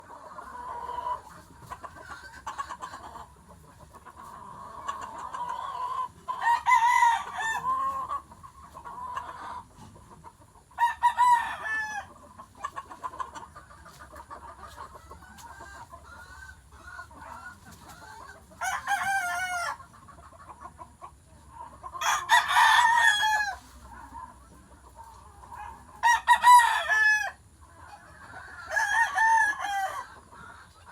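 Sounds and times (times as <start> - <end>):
rooster clucking: 0.0 - 30.9.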